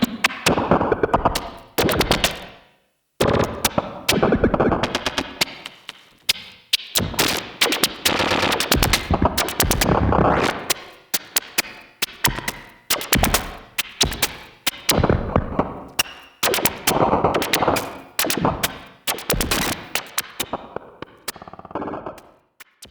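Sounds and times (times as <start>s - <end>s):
glitchy experimental synthesizer music: 0.0s - 2.4s, 3.3s - 22.9s.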